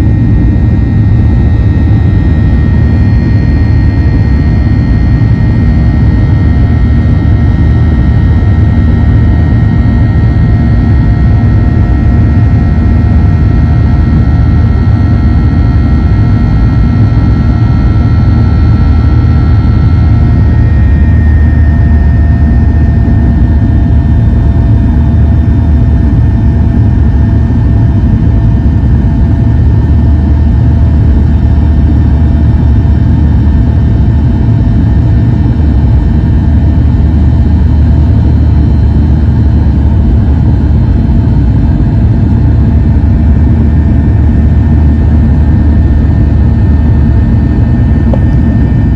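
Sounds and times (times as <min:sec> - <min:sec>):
jet engine rumble in cabin: 0:00.0 - 0:48.9
whining fan tones: 0:00.0 - 0:48.9.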